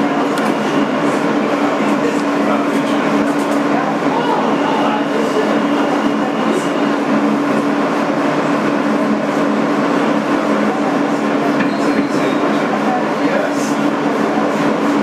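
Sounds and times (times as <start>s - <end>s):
subway car running noise: 0.0s - 15.0s.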